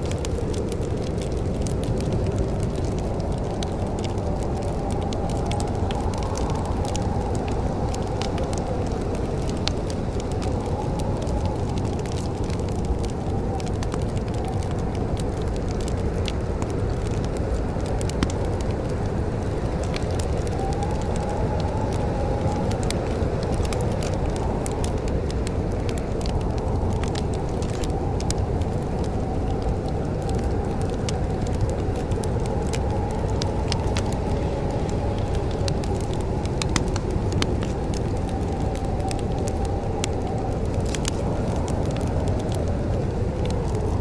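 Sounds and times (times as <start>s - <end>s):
fire pops: 0.0s - 44.0s
wood fire crackling: 0.0s - 44.0s.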